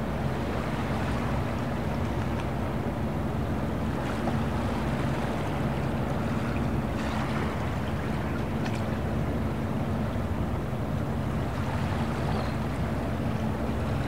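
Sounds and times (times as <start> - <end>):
boat engine droning: 0.0 - 14.0
rushing water: 0.0 - 14.0.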